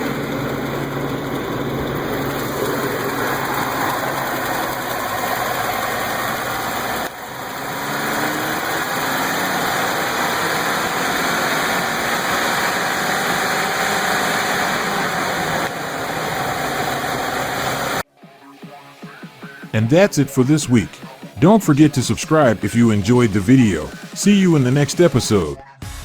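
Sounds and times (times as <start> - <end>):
truck engine idling: 0.0 - 18.0, 19.8 - 25.5.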